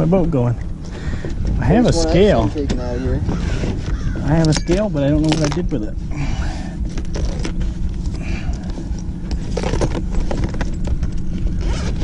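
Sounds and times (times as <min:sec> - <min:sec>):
steady low rumble: 0:00.0 - 0:12.0
fishing gear rattling and scraping: 0:00.7 - 0:12.0.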